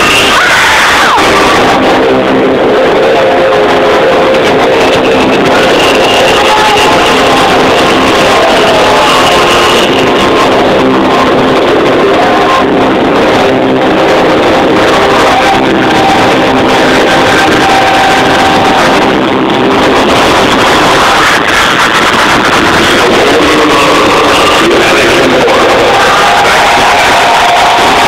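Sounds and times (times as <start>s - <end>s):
loud trance music: 0.0s - 28.0s.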